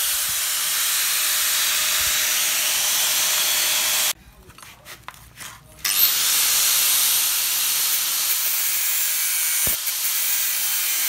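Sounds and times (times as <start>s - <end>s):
angle grinder cutting steel: 0.0s - 4.2s, 5.8s - 11.0s.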